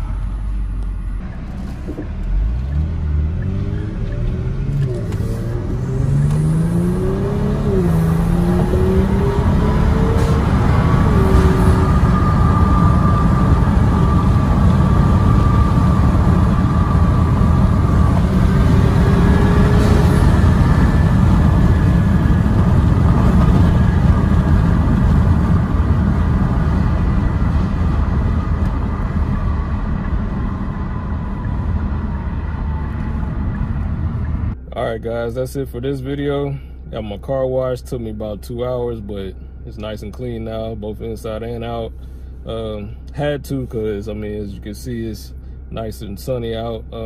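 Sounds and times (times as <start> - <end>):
car engine and road noise: 0.0 - 47.0.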